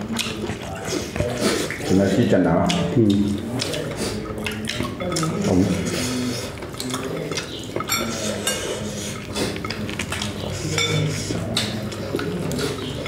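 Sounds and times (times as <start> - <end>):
plates and bowls clinking: 0.2 - 13.0.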